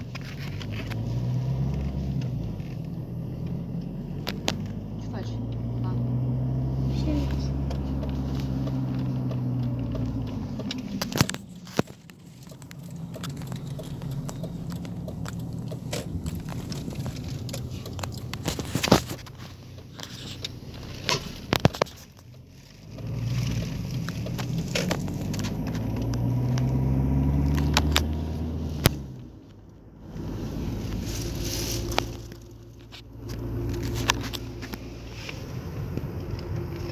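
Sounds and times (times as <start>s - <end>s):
car engine and road hum: 0.0s - 36.9s.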